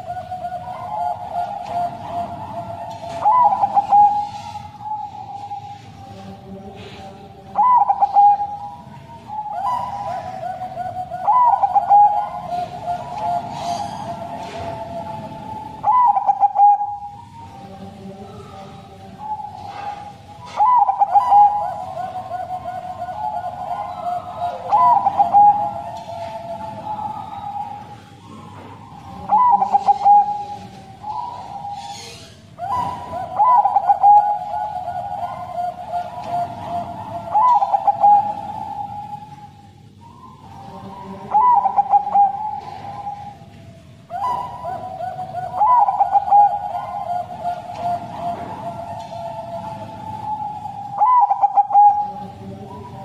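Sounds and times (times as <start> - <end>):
dove cooing: 0.0 - 53.0.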